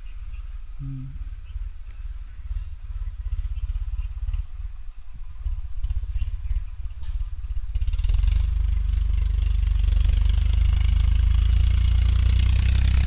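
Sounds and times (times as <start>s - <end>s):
engine pulsing rumble: 0.0s - 13.0s.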